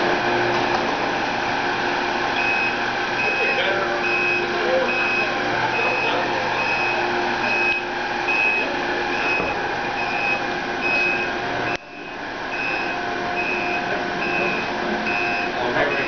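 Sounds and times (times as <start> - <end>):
electronic warning beep: 2.4 - 16.0.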